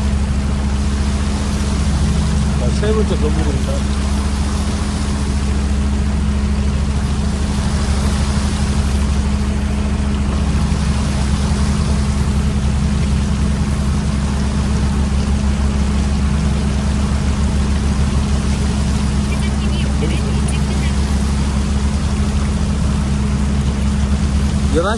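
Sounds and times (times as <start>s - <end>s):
diesel boat engine droning: 0.0s - 24.9s.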